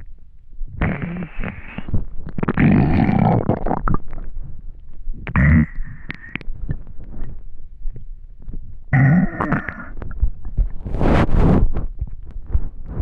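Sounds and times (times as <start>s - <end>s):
stomach growling and gurgling: 0.7s - 13.0s.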